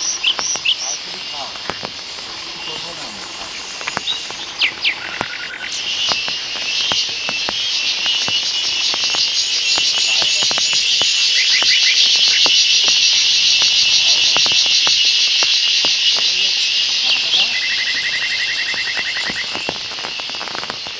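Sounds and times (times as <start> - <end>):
insects buzzing trill: 0.0 - 20.9
sharp clicks: 0.0 - 20.9.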